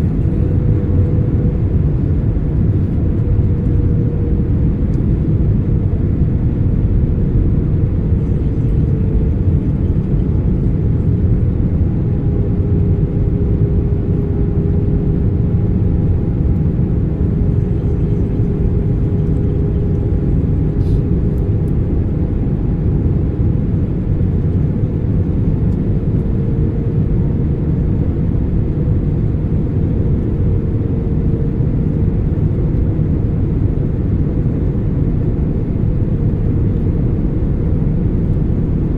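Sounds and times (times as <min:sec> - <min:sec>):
jet engine roar in cabin: 0:00.0 - 0:38.9.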